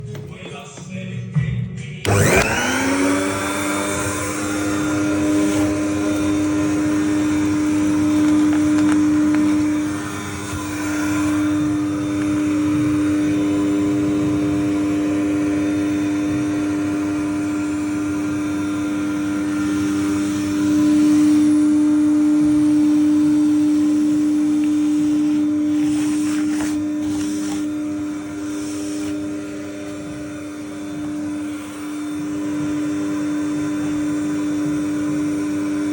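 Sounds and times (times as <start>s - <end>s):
vacuum cleaner motor humming: 0.0s - 0.9s, 2.0s - 35.9s.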